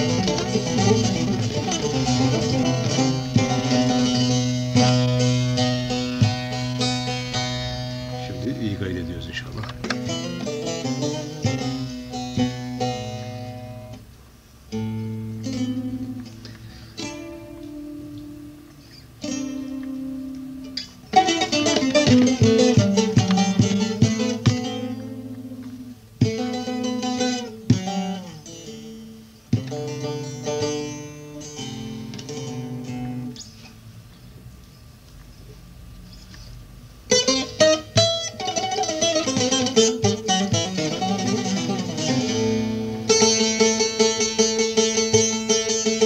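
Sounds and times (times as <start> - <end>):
plucked long-necked lute: 0.0 - 34.2, 35.4 - 46.0.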